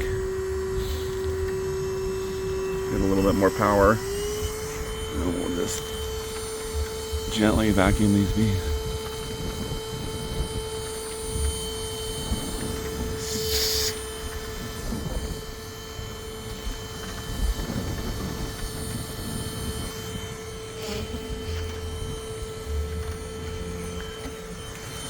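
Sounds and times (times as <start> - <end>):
vacuum motor whining: 0.0 - 25.0.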